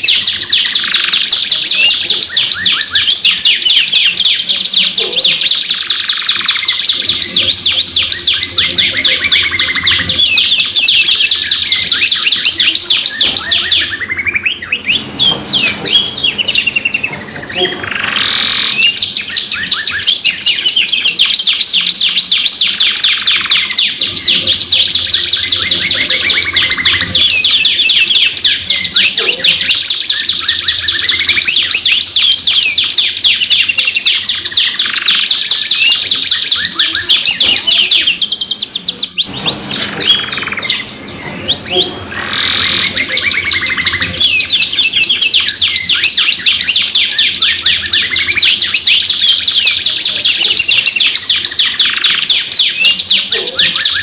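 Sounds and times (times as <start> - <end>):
canaries singing trills: 0.0 - 54.0.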